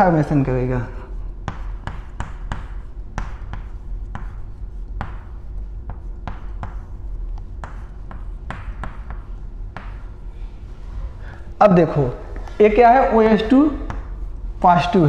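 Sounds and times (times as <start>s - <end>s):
chalk tapping and scratching: 0.0s - 11.1s, 12.4s - 15.0s.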